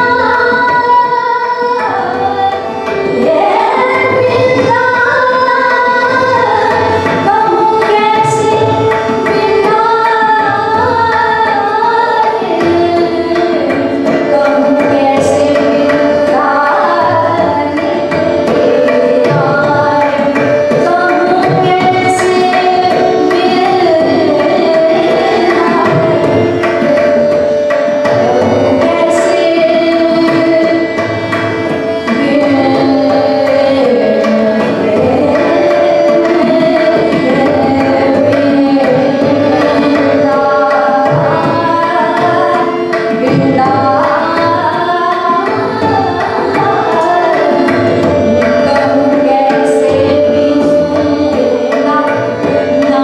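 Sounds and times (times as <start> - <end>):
tabla drumming: 0.0 - 53.0
woman singing classical vocal: 0.0 - 53.0.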